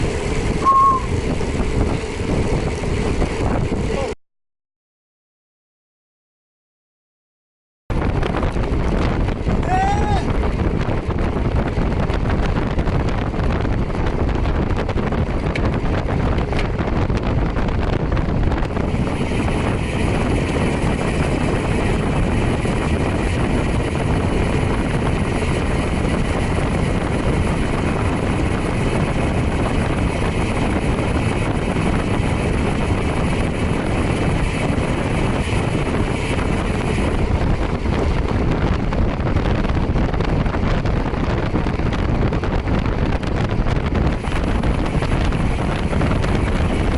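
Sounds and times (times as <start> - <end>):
wind rushing over microphone: 0.0 - 4.2, 7.9 - 46.9.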